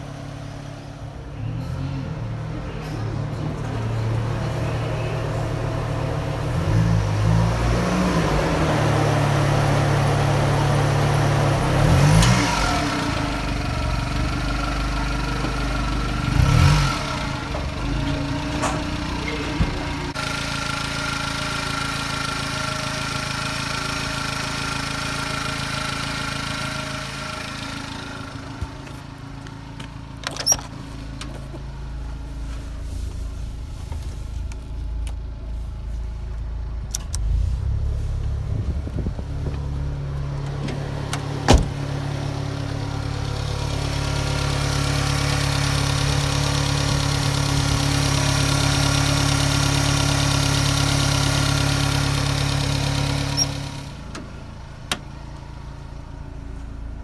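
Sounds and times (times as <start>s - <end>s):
van engine revving and idling: 0.0s - 57.0s.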